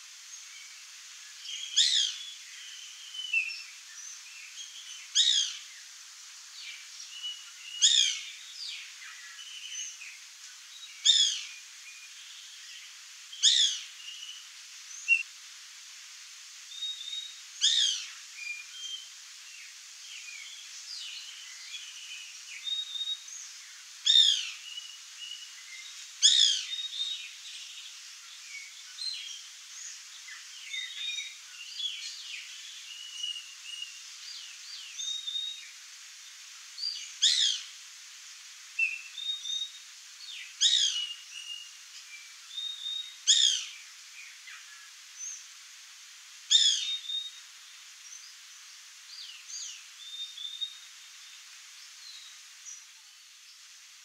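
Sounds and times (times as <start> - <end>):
faint bird chirps and whistles: 0.3 - 5.8, 6.6 - 15.3, 16.7 - 35.8, 38.8 - 45.5, 46.5 - 53.7.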